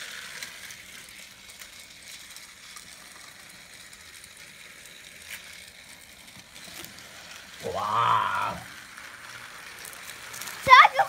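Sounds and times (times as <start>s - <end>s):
toy train motors whirring: 0.0s - 11.0s.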